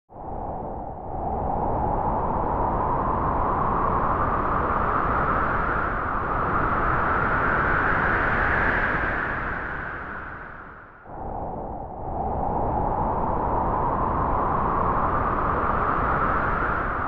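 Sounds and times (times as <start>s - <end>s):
howling wind: 0.1s - 17.0s.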